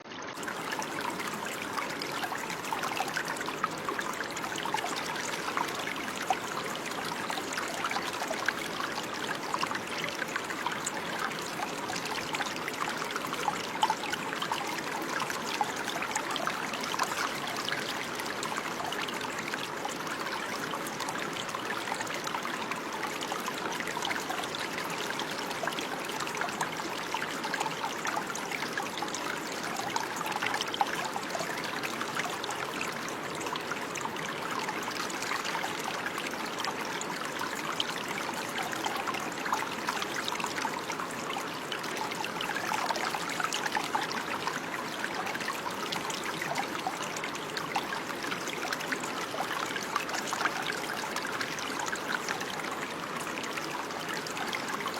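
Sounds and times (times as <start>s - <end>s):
stream trickling over stones: 0.0s - 54.9s.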